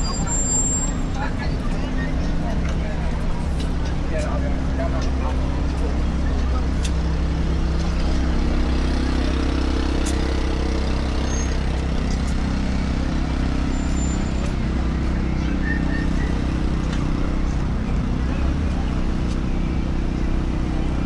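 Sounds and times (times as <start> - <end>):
traffic engines rumbling: 0.0 - 21.0.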